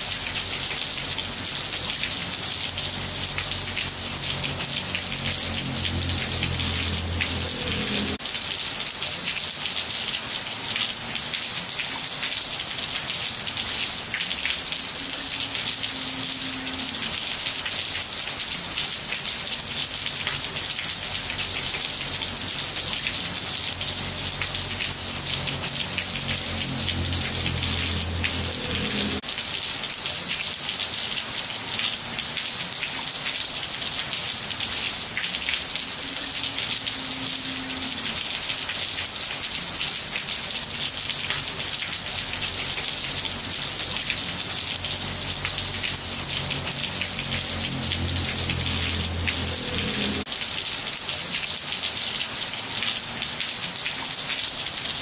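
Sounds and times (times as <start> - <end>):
rain falling on tiles: 0.0 - 55.0.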